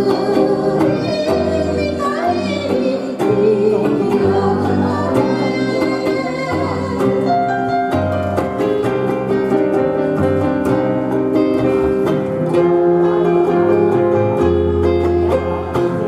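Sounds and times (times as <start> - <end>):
electric bass: 0.0 - 16.0
electric guitar: 0.0 - 16.0
electric keyboard: 0.0 - 16.0
live band instrumental: 0.0 - 16.0.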